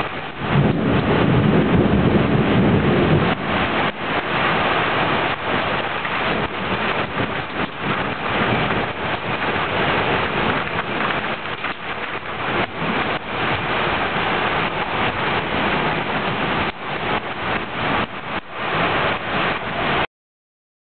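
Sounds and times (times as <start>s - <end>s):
heavy rain pouring: 0.0s - 20.1s.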